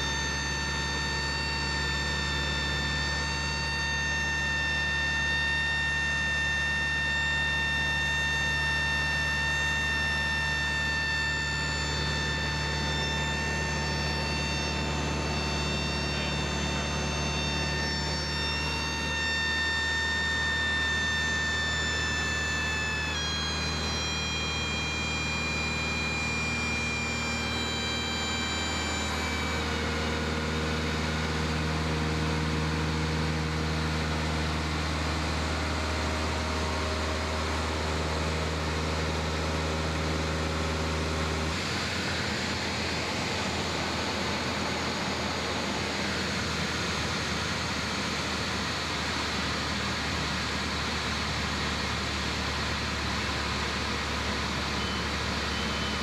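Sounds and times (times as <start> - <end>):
airplane engine drone: 0.0 - 56.0.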